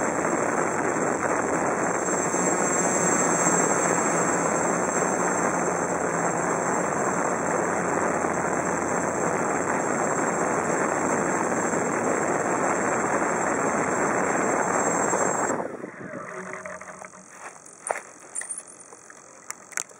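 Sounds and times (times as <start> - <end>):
quadcopter motors and propellers: 0.0 - 19.9.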